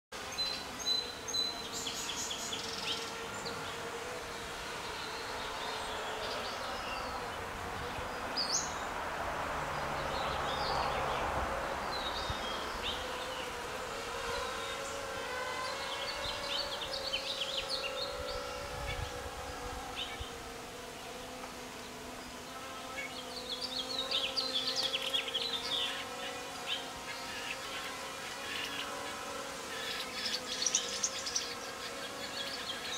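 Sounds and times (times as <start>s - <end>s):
steady buzzing drone: 0.2s - 32.9s.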